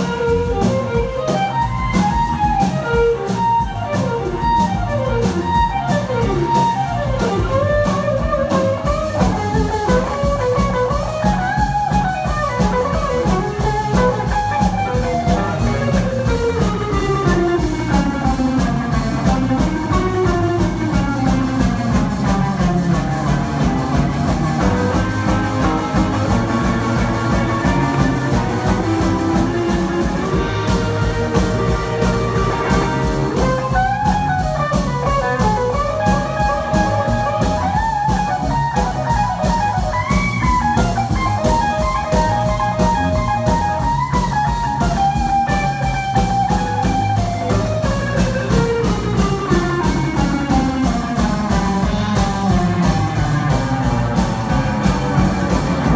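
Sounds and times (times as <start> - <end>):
drum kit steady beat: 0.0 - 55.9
electric guitar: 0.0 - 55.9.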